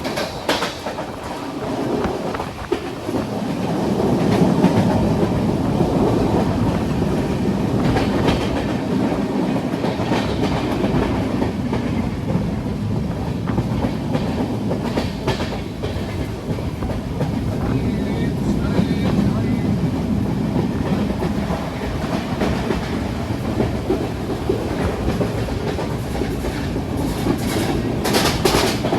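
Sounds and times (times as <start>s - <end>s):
freight train wheels rumbling: 0.0s - 28.9s
wheels clicking over rail joints: 0.0s - 28.9s.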